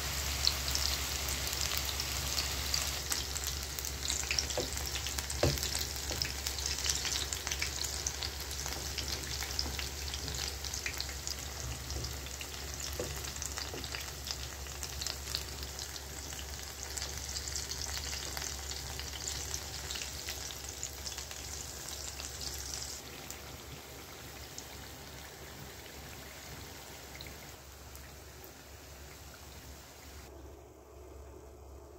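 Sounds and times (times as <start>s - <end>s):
pakoras sizzling in hot oil: 0.0s - 30.3s.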